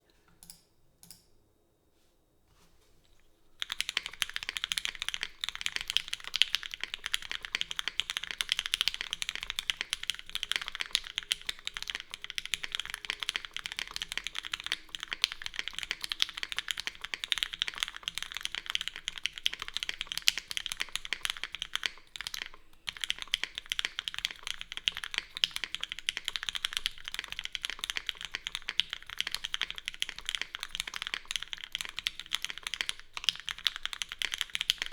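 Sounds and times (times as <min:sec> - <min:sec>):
fast mechanical keyboard typing: 0:03.6 - 0:34.9.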